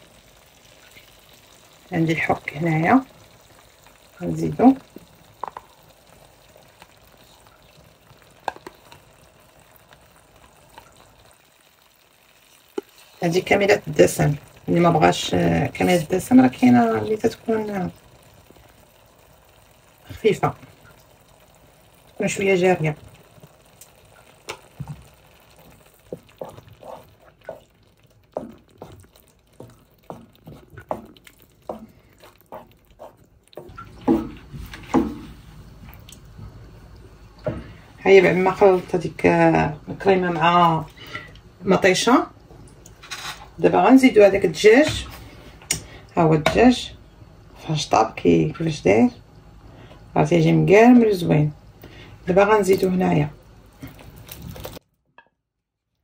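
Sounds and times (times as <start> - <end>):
sauce sizzling in a pan: 0.0 - 48.4, 49.0 - 54.8.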